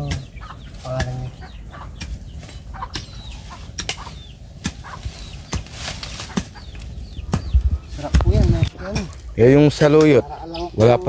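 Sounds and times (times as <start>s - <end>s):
bird chirps: 0.0s - 11.0s
leaves and stems rustling: 0.0s - 11.0s.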